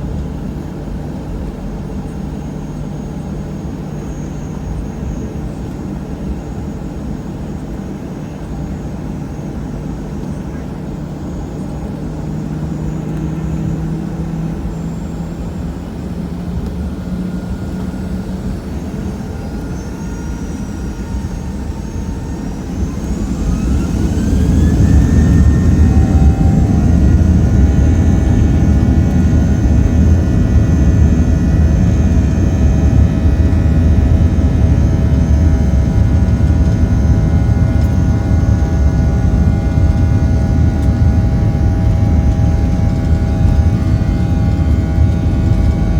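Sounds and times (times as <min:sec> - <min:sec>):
jet engines spooling up: 0:00.1 - 0:45.9.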